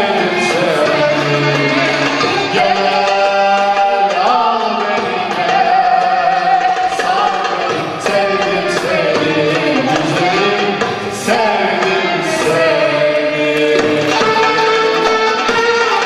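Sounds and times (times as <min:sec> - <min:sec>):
choir singing: 0:00.0 - 0:16.0
hand-drum percussion: 0:00.0 - 0:16.0.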